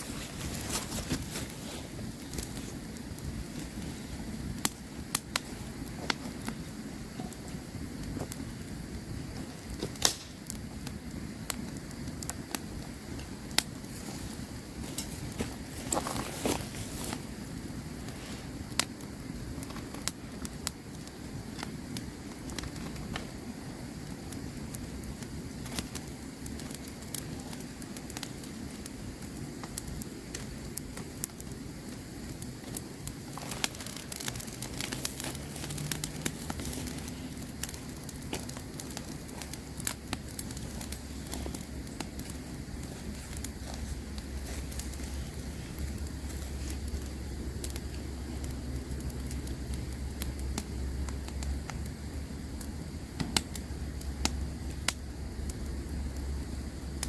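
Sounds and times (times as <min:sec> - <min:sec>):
low rumble of flame: 0:00.0 - 0:57.0
wood crackling and popping: 0:00.0 - 0:57.0.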